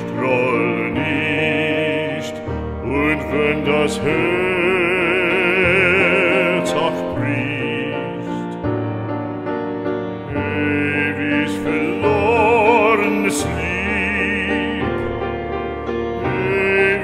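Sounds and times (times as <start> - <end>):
slow classical melody: 0.0 - 17.0.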